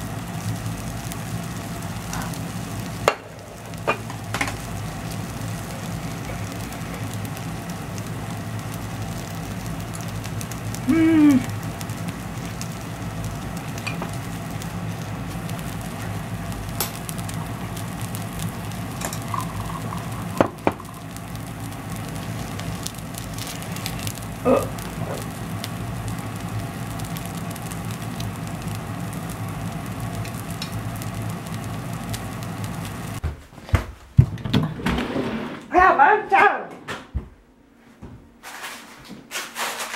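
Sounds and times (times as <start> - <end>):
batter sizzling in a pan: 0.0 - 33.2
low hum: 0.0 - 33.2.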